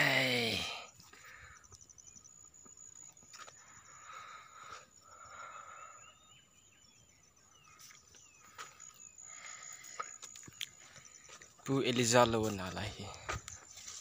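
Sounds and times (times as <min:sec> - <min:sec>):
distant birds chirping: 0:00.0 - 0:14.0.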